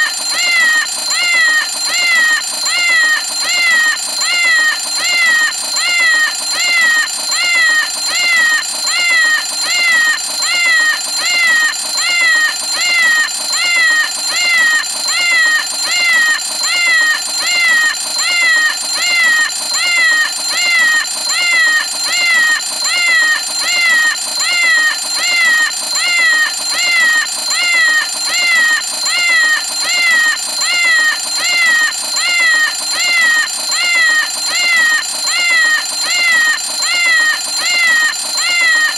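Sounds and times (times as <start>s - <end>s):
synthetic meowing alarm: 0.0s - 38.9s.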